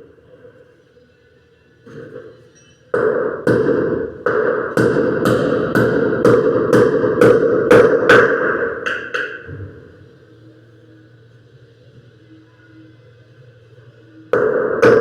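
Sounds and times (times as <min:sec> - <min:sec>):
steady noise: 0:03.0 - 0:15.0.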